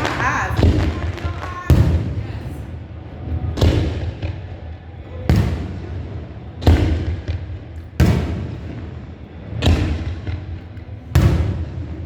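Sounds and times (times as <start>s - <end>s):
fireworks bangs with rumbling echo: 0.0s - 2.5s, 3.3s - 12.0s.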